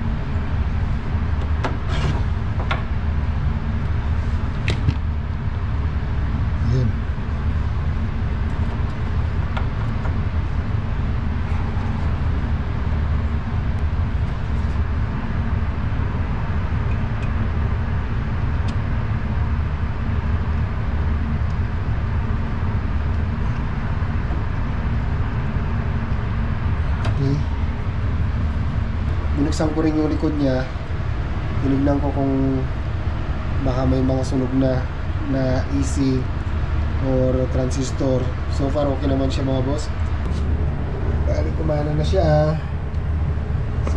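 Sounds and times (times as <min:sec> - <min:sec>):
refrigerator compressor humming: 0:00.0 - 0:43.9.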